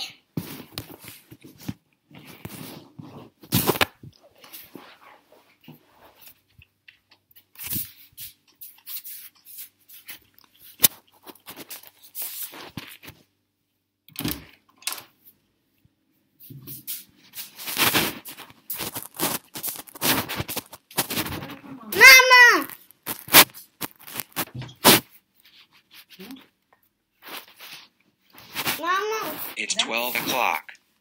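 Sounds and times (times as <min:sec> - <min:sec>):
handling noise of recording device: 0:00.0 - 0:13.4, 0:14.1 - 0:31.0.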